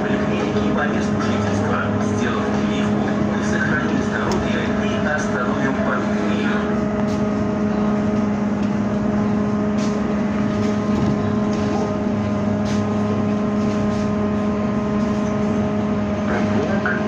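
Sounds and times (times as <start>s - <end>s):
electrical hum: 0.0s - 17.0s
road rumble: 0.0s - 17.0s.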